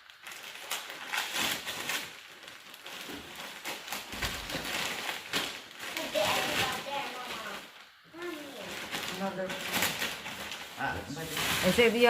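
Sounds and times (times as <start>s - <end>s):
wrapping paper tearing and crinkling: 0.0s - 12.0s.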